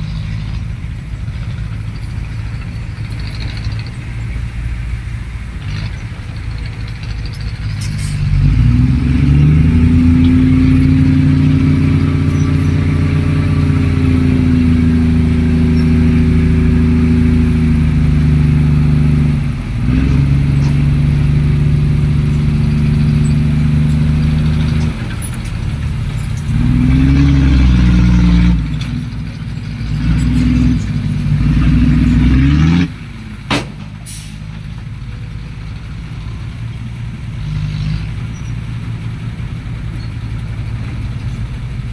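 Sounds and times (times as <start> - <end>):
heavy diesel engine revving: 0.0 - 41.9.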